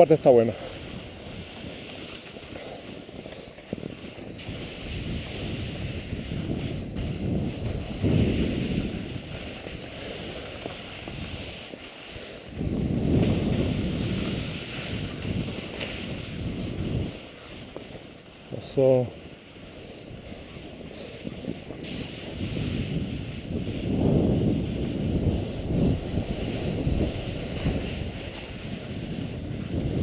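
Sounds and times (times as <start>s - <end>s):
skis scraping over snow: 0.0s - 30.0s
wind on microphone: 0.0s - 30.0s.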